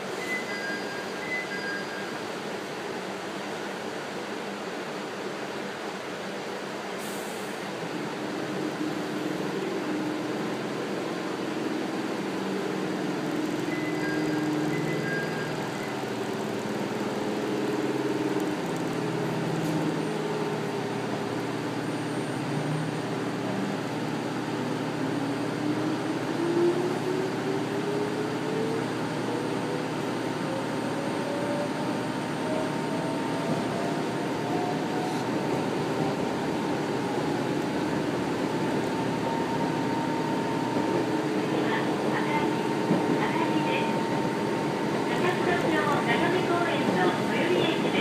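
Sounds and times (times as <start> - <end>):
train car rumble: 2.2 - 48.0.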